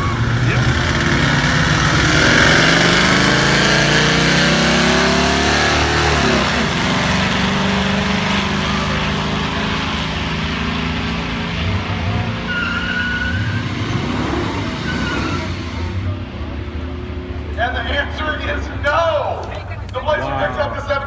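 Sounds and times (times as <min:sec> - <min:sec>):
engines at full throttle: 0:00.0 - 0:19.0.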